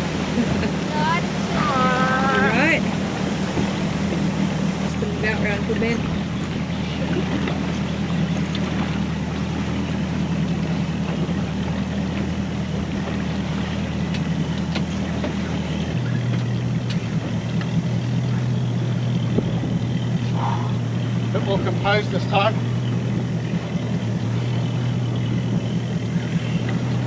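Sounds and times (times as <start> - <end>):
outboard motor humming: 0.0 - 27.0
water wash: 0.0 - 27.0.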